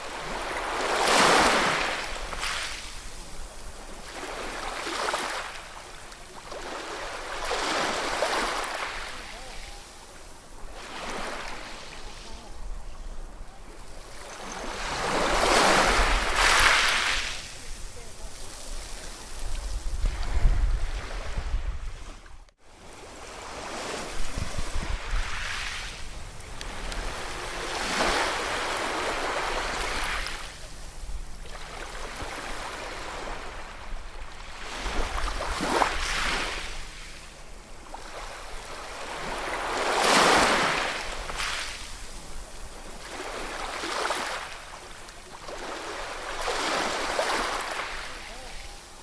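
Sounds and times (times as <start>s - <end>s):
ocean waves breaking on shore: 0.0s - 49.0s.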